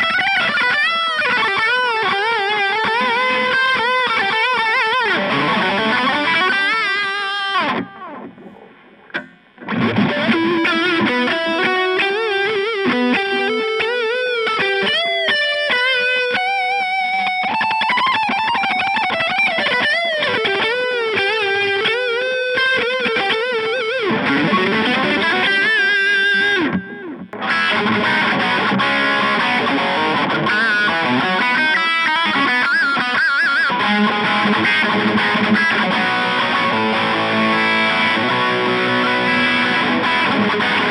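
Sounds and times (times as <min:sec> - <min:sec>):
electric guitar lead lines: 0:00.0 - 0:40.9.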